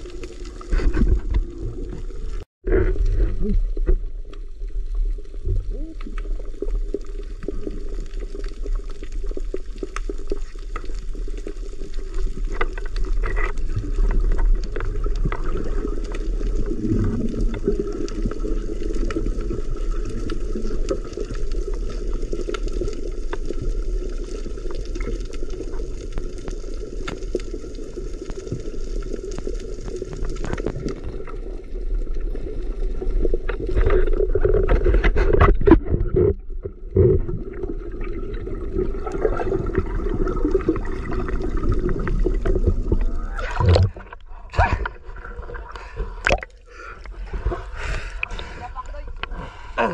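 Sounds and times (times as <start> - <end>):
muffled underwater water noise: 0.0 - 49.9.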